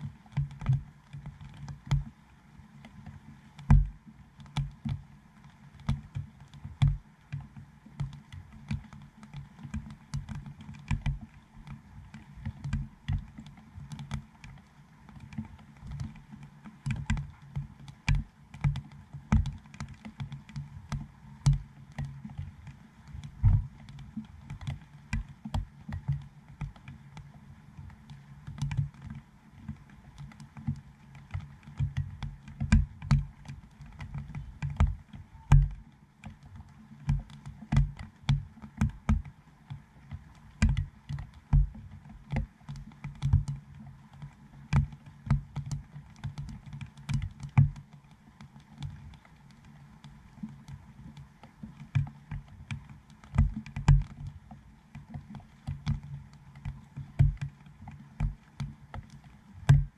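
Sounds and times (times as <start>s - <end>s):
hiss of light rain: 0.0s - 59.8s
raindrops tapping camera housing: 2.9s - 59.9s.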